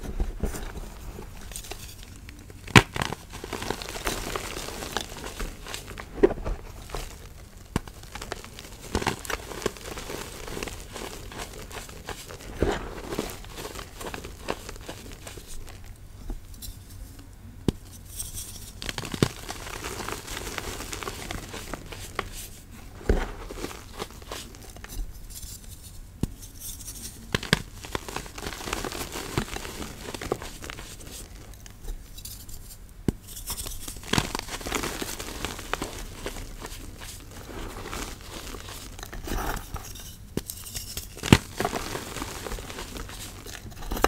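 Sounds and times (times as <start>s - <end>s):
chalk crunching and crumbling: 0.0s - 44.0s.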